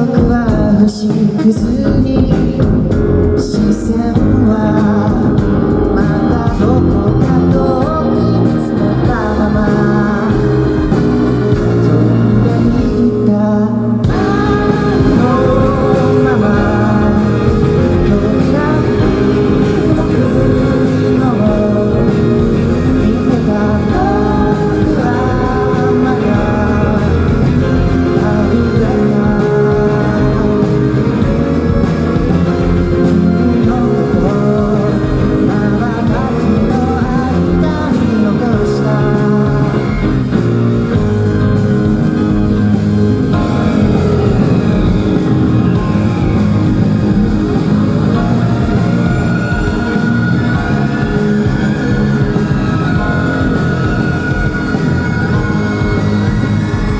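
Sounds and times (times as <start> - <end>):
electric guitar: 0.0 - 56.9
rock band playing: 0.0 - 56.9.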